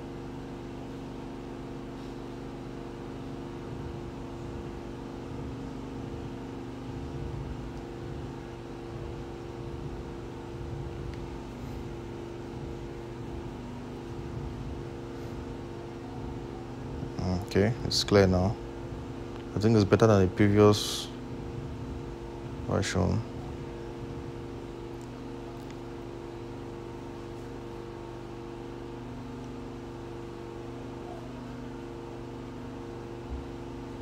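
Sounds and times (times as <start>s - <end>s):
machine drone hum: 0.0s - 34.0s.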